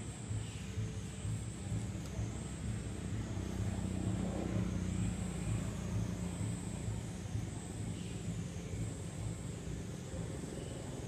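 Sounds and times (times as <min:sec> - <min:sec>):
low motor rumble: 0:00.0 - 0:11.0.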